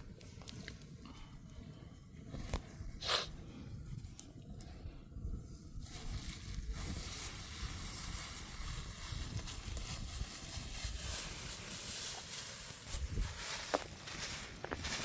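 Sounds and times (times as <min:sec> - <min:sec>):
wind buffeting microphone: 0:01.6 - 0:12.0, 0:12.8 - 0:15.0.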